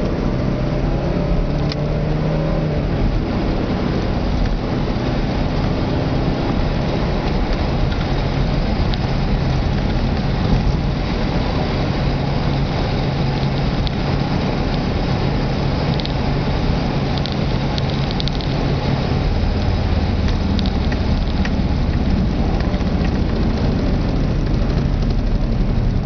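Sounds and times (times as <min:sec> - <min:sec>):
car engine running: 0:00.0 - 0:26.0
tyre and wind noise: 0:00.0 - 0:26.0.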